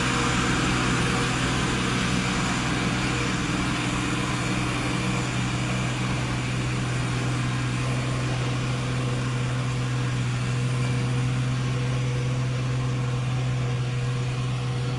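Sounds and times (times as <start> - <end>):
truck diesel engine humming: 0.0 - 14.9.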